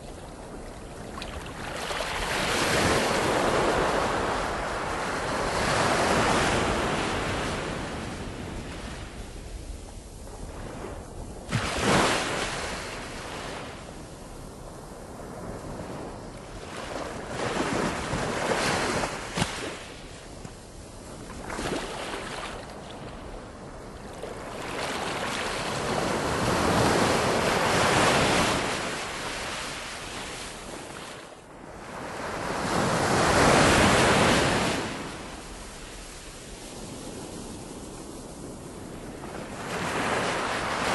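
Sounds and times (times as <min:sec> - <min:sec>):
surf and wind rushing: 0:00.0 - 0:40.9.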